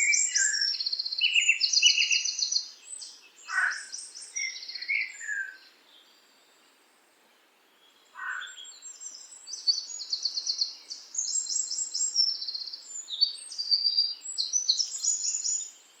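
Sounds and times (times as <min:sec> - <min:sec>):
songbirds singing: 0:00.0 - 0:16.0.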